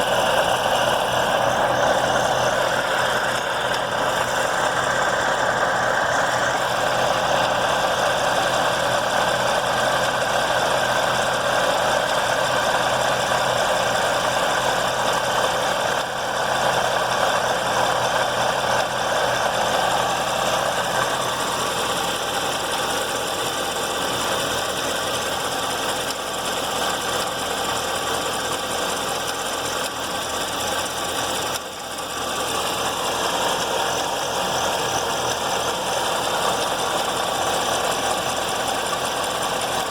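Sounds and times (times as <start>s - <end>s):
car engine running: 0.0s - 39.9s
engine tapping and knocking: 0.0s - 39.9s.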